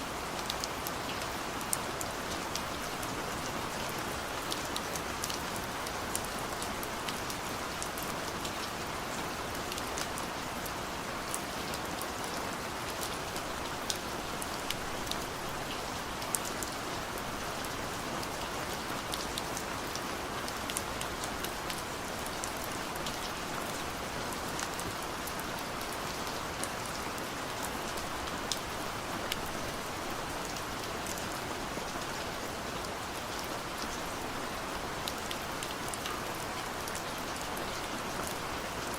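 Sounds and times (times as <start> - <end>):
rain drops ticking on a surface: 0.0 - 38.9.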